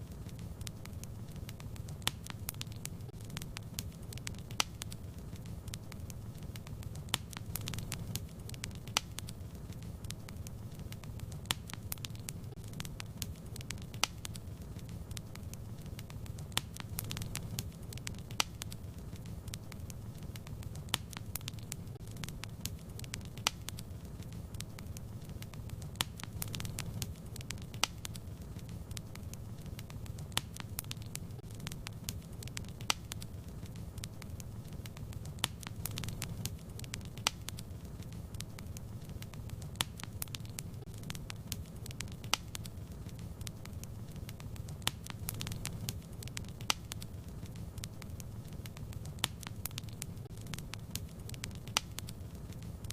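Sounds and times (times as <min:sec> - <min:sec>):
fire crackling and popping: 0:00.0 - 0:52.9
low fire rumble: 0:00.0 - 0:52.9.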